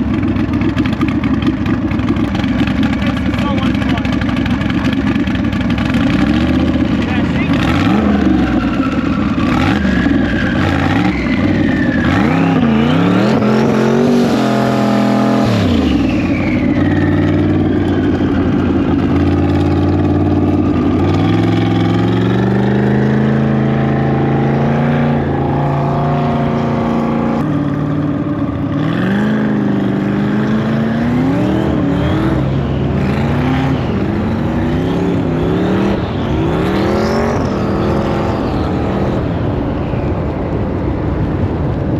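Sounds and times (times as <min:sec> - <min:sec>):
car engine revving: 0:00.0 - 0:41.8.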